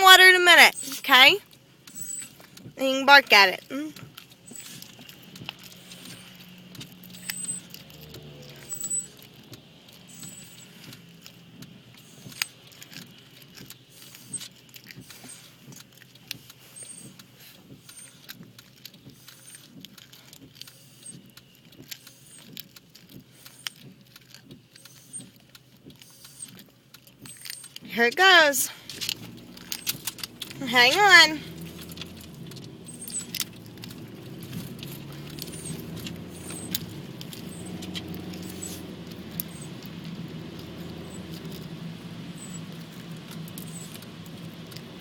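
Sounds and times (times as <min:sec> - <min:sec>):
car engine idling: 0:00.0 - 0:45.0
small clicks: 0:00.0 - 0:45.0.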